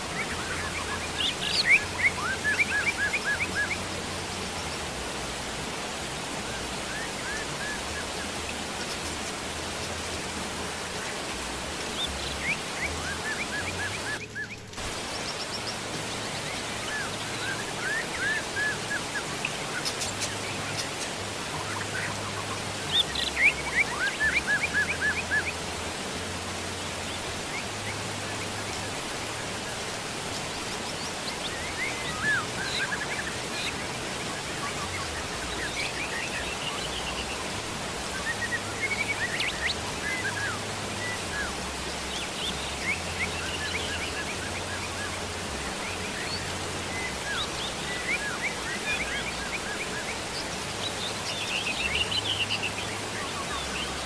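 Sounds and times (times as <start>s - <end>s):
falling rain hiss: 0.0s - 54.0s.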